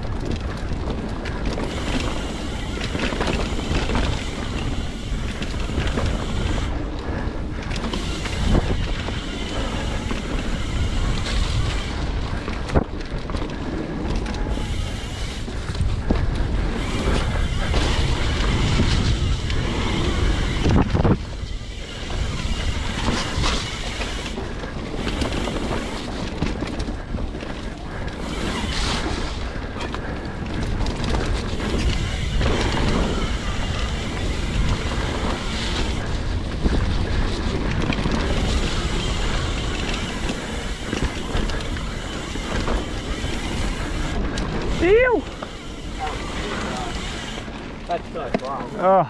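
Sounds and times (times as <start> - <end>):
wind on microphone: 0.0 - 47.9
bike knocking and rattling: 0.0 - 49.0
bike tyres rolling on dirt: 0.0 - 49.0.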